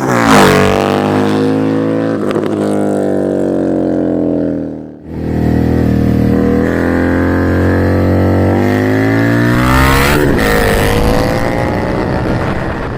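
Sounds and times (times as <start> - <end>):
motorcycle engine accelerating hard: 0.0 - 12.9.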